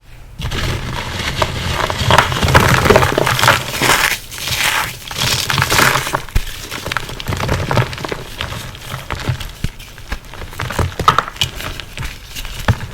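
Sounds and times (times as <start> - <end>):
chalk crunching and crackling: 0.4 - 12.9.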